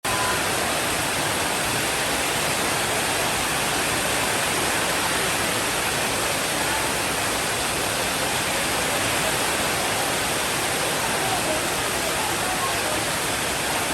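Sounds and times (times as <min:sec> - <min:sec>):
rainfall hiss: 0:00.1 - 0:13.9.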